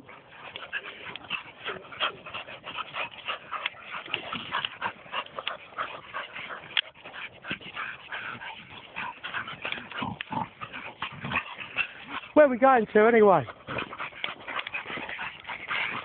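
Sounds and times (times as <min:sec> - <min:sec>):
dogs whimpering and yipping: 0:00.0 - 0:12.4, 0:13.3 - 0:16.0.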